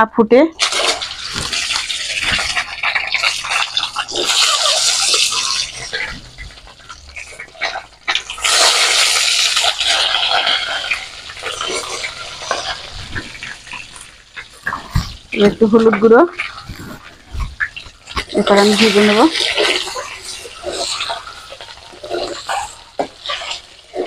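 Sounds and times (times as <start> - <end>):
eggs sizzling in hot oil: 0.5 - 24.0.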